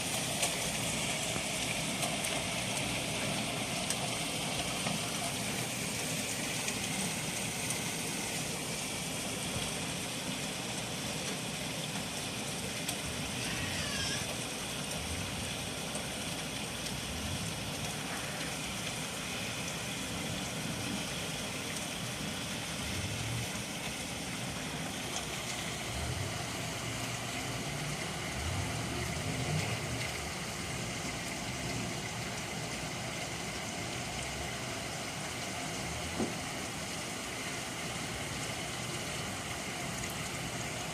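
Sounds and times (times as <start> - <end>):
hail falling: 0.0 - 40.9.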